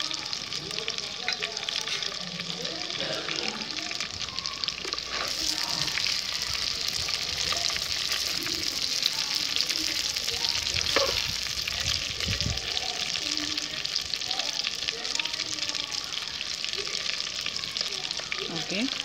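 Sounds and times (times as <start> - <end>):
chicken deep-frying in oil: 0.0 - 19.0.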